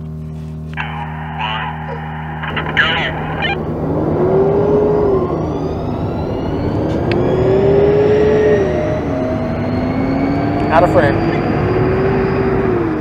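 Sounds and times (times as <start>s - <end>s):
diesel truck engine accelerating: 0.0s - 13.0s
high electric whine: 0.0s - 13.0s.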